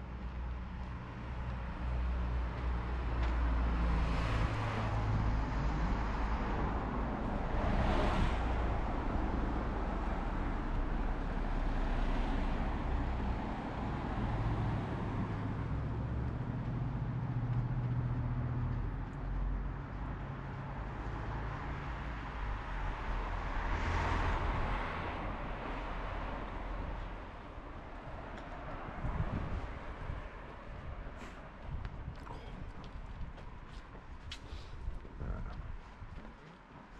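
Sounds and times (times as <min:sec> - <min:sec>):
cars driving past: 0:00.3 - 0:34.6.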